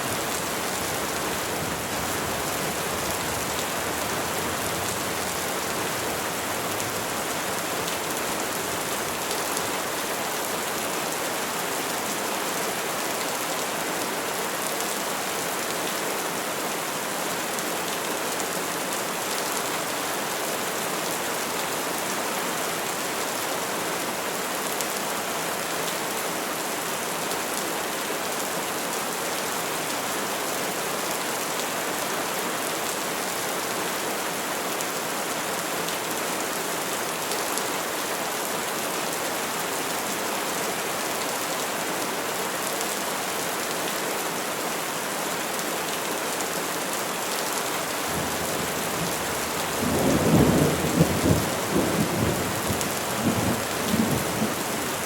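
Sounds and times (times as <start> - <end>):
rain falling on trees: 0.0 - 55.0.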